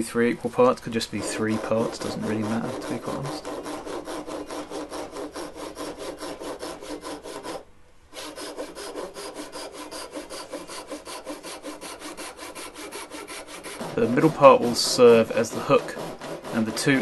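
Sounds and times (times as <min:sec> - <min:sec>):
handsaw cutting wood: 0:00.4 - 0:07.6, 0:08.2 - 0:17.0.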